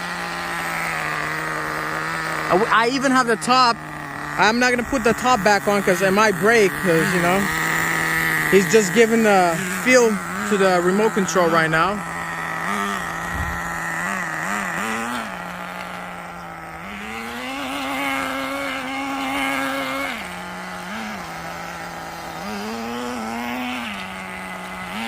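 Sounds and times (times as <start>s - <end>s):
small engine idling and revving: 0.0s - 25.0s.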